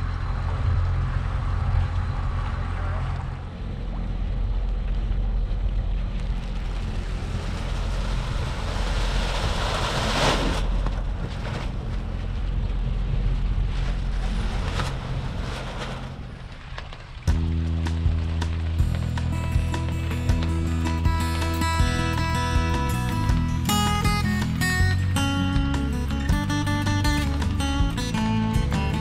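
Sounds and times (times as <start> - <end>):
wind buffeting microphone: 0.0 - 25.7
steady low rumble: 0.0 - 29.0
water washing past hull: 0.0 - 29.0.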